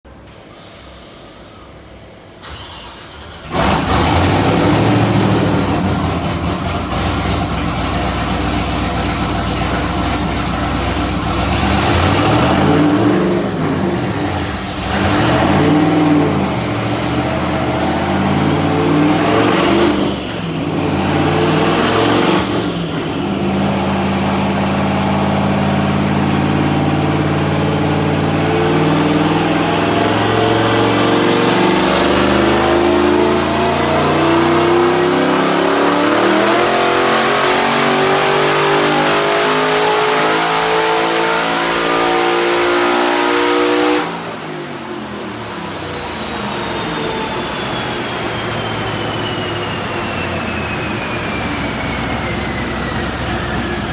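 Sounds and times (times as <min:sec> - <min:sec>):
engine revving: 0:02.4 - 0:53.9.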